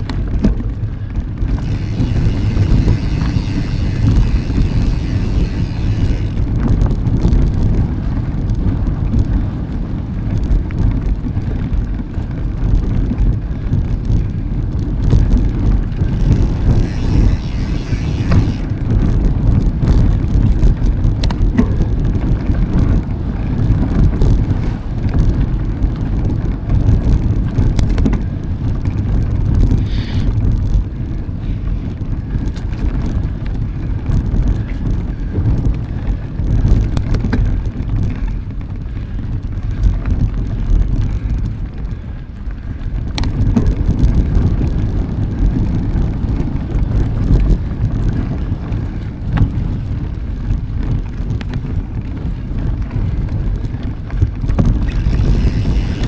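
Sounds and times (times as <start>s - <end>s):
bike tyres rolling over trail: 0.0s - 56.0s
wind on microphone: 0.0s - 56.0s.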